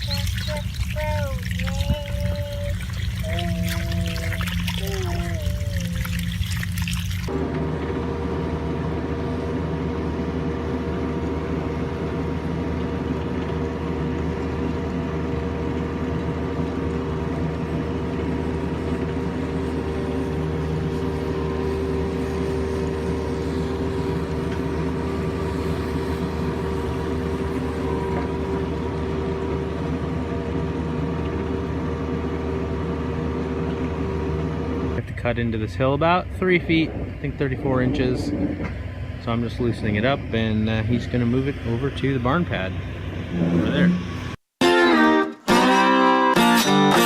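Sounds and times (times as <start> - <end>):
diesel engine running: 0.0 - 44.4.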